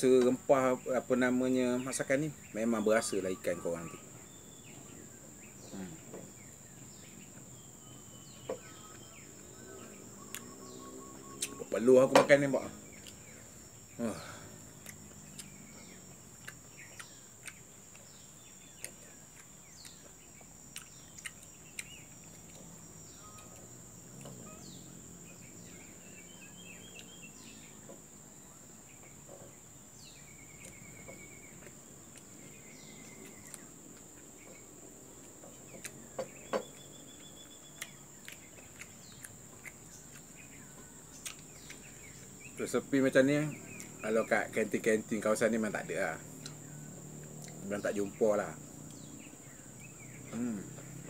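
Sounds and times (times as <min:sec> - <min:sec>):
bird chirps and trills: 0:00.0 - 0:51.0
insects droning: 0:00.0 - 0:51.0.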